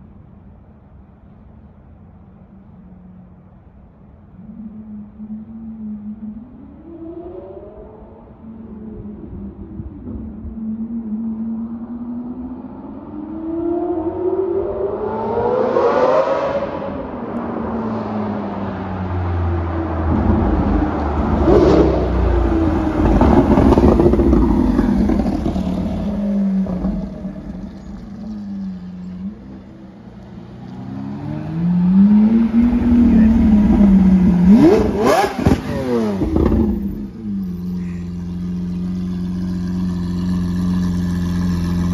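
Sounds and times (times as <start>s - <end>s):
sports car engine revving past: 6.9s - 41.9s.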